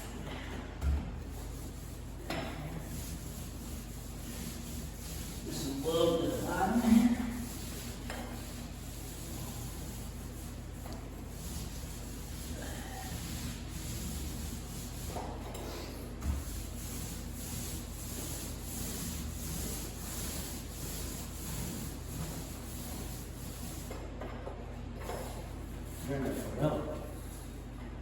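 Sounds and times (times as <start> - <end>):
tool rubbing over drywall: 1.1 - 27.7.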